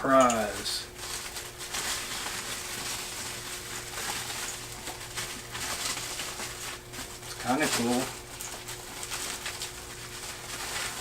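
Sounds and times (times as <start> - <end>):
low electrical hum: 0.0 - 11.0
packaging rustling: 0.3 - 11.0.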